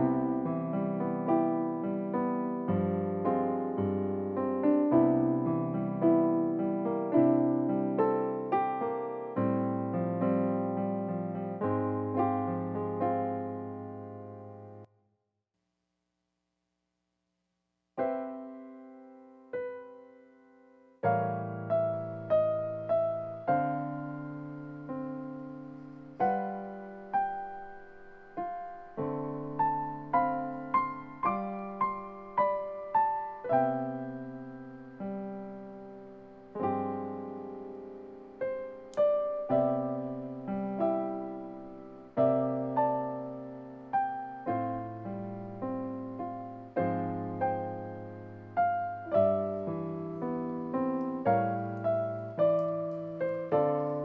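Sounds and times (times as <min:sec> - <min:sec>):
solo piano music: 0:00.0 - 0:14.9, 0:18.0 - 0:54.0.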